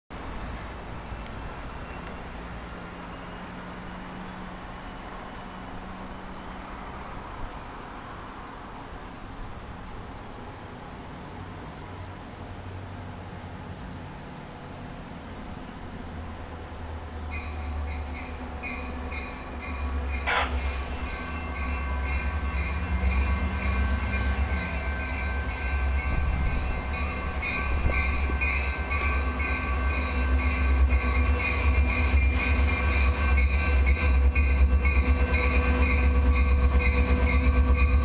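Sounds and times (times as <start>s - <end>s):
cricket chirping: 0.3s - 36.1s.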